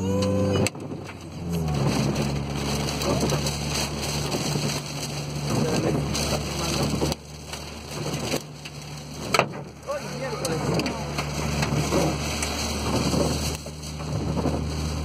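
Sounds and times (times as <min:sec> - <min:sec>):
car engine and road hum: 0:00.0 - 0:15.0
rain hitting windscreen: 0:00.0 - 0:15.0
wind: 0:00.0 - 0:15.0.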